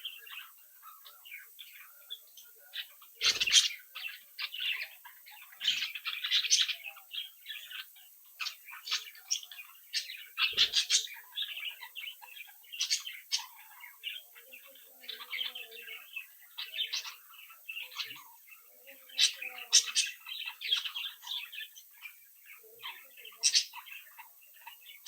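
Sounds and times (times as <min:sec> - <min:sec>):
budgerigars chirping: 0:00.0 - 0:25.0.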